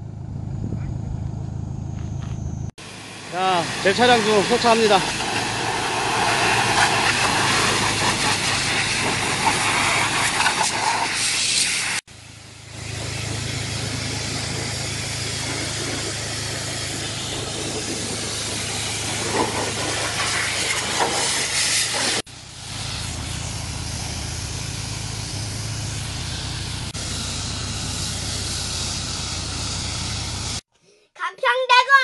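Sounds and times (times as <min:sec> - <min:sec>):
steady low hum: 0:00.0 - 0:10.2, 0:12.1 - 0:21.5, 0:22.2 - 0:30.6
pressure washer spraying water: 0:02.8 - 0:30.6.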